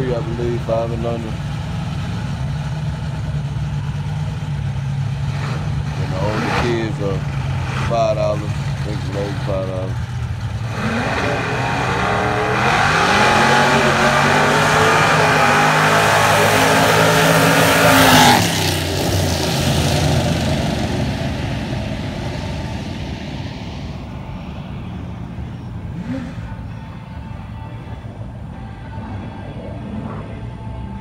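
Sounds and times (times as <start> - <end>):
drag racing car accelerating: 0.0 - 27.2.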